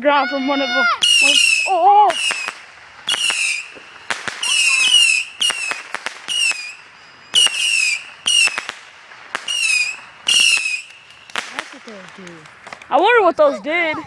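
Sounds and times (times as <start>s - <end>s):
fireworks whistling and cracking: 0.0s - 14.0s
firework pops: 1.0s - 13.4s.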